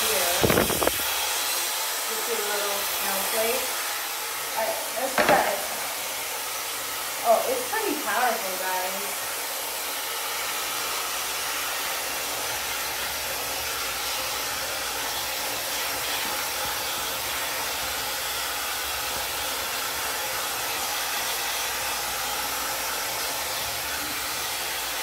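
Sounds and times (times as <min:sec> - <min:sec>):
hair dryer brush blowing: 0:00.0 - 0:25.0.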